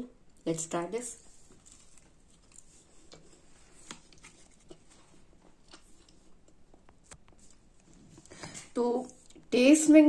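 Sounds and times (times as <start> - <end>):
chewing soft bread: 1.2 - 9.5.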